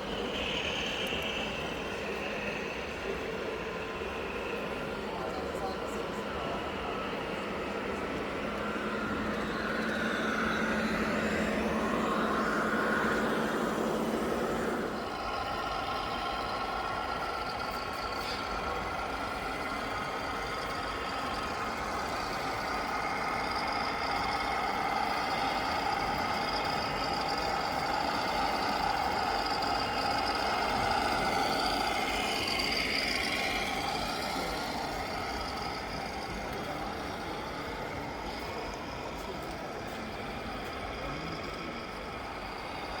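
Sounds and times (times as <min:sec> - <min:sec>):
model truck motors whining: 0:00.0 - 0:43.0.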